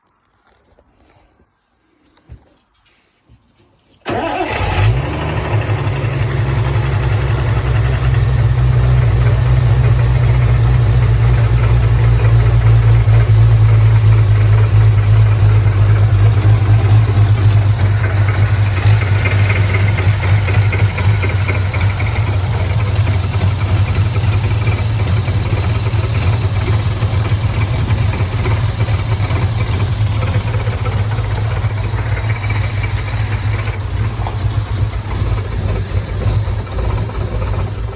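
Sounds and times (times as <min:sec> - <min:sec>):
car engine idling: 0:04.0 - 0:37.9.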